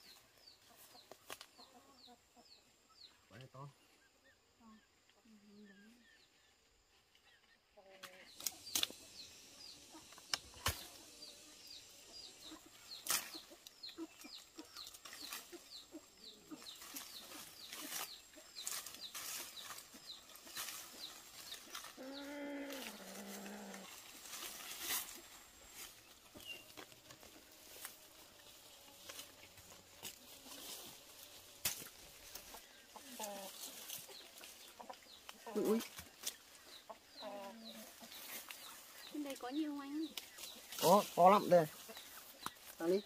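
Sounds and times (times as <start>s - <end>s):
birds peeping: 0.0s - 43.0s.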